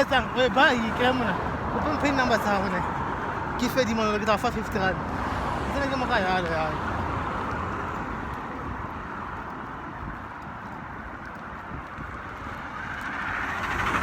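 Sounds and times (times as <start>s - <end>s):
car approaching: 0.0s - 14.0s
passing traffic rushing: 0.0s - 14.0s.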